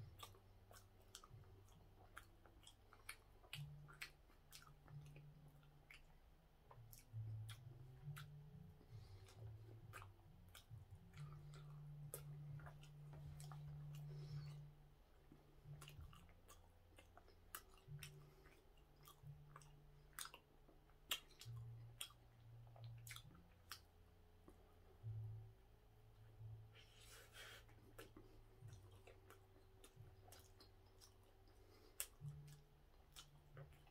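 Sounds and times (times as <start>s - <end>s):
man chewing soft bun: 0.0s - 33.9s.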